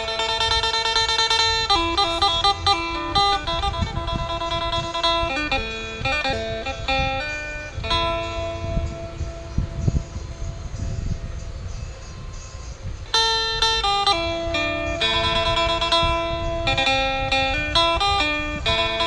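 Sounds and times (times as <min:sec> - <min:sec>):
plucked lute melody over drone: 0:00.0 - 0:19.0.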